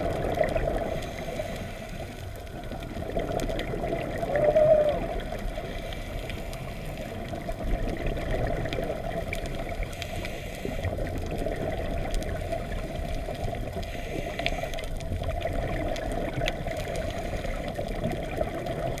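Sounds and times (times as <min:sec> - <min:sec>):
faint clicks: 0:00.0 - 0:19.0
muffled underwater rush: 0:00.0 - 0:19.0.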